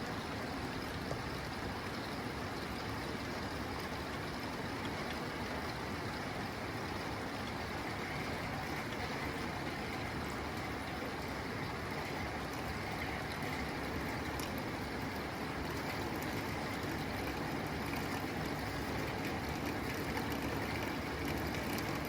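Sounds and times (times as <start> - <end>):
rain on a tin roof: 0.0 - 22.0.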